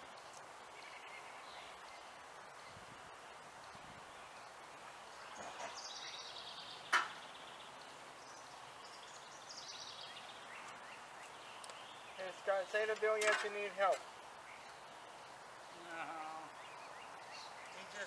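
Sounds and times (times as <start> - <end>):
bird singing trilled phrases: 0.2 - 18.0.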